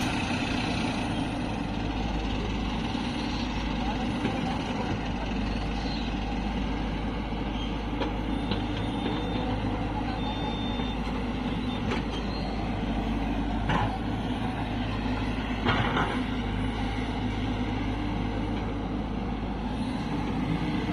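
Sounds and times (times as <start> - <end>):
diesel engines running: 0.0 - 20.9.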